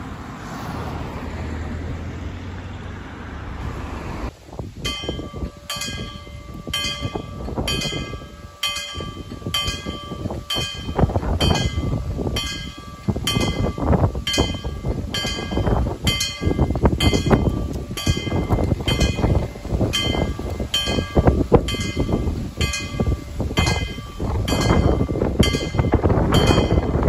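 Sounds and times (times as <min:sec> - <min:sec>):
level crossing warning bell: 0:04.7 - 0:27.0.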